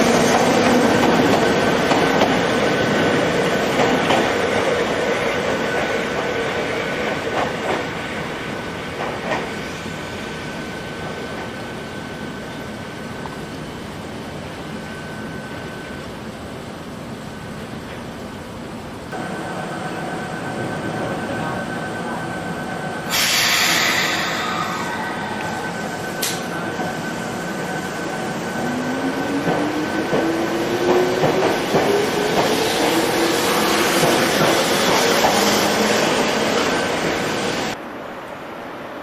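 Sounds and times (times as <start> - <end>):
train wheels on rails: 0.0 - 16.2, 19.1 - 38.4.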